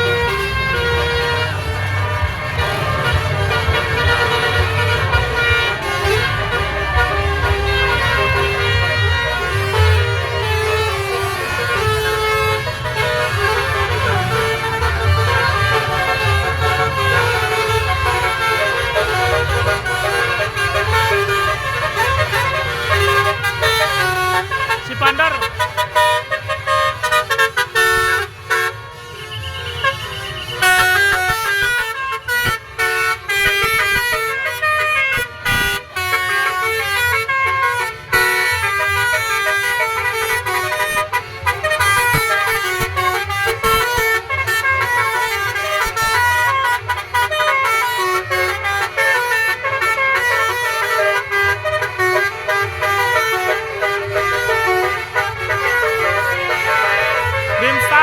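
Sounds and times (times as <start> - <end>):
multi-tone car horns playing tune: 0.0 - 58.0.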